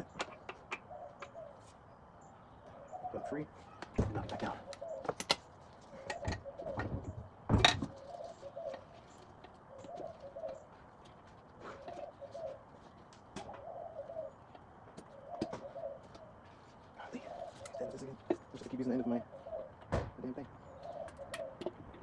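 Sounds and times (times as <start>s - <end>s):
dove cooing: 0.0s - 1.7s, 2.7s - 5.3s, 5.9s - 10.8s, 11.6s - 22.0s.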